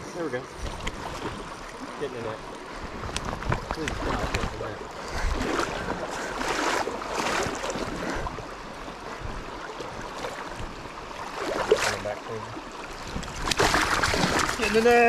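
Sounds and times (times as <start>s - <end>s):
fast-flowing creek rushing: 1.0s - 15.0s.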